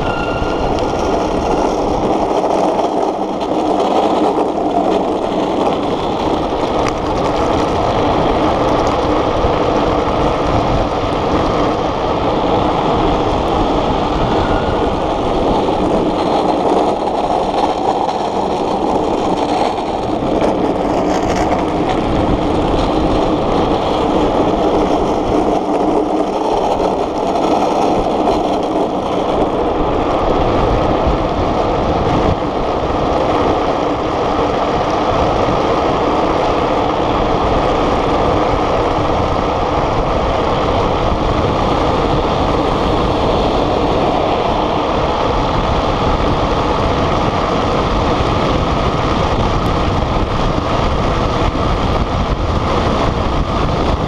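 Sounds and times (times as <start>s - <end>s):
wheels roaring on rough asphalt: 0.0s - 54.0s
wind rushing over microphone: 0.0s - 54.0s.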